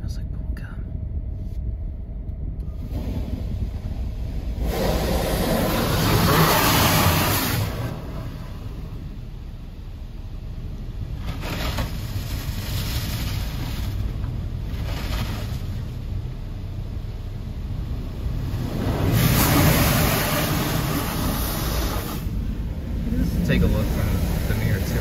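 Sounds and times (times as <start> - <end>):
steady low rumble: 0.0 - 25.0
water jets spraying on car: 2.9 - 25.0.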